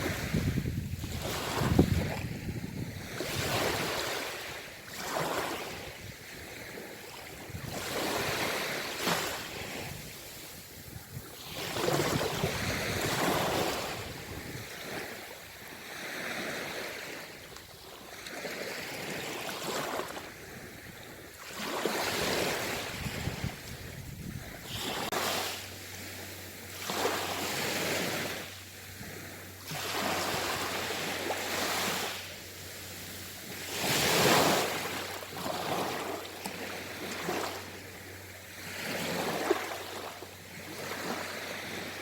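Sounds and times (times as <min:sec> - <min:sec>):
ocean waves breaking on shore: 0:00.0 - 0:42.0.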